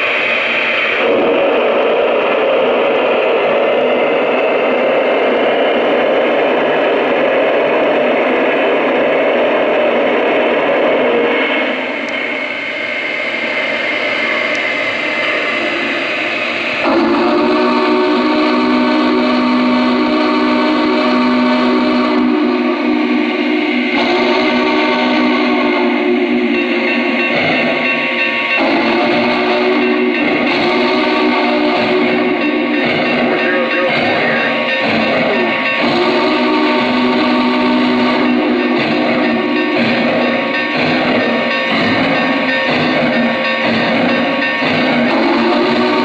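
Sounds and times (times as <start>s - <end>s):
steam hiss: 0.0s - 46.0s
steam whistle chord: 0.0s - 46.0s.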